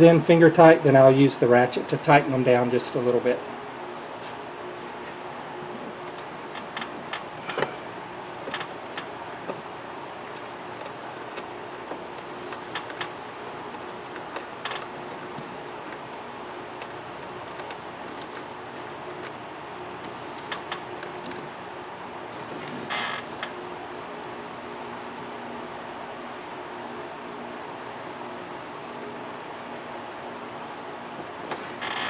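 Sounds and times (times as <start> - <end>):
background hum: 0.0 - 32.0.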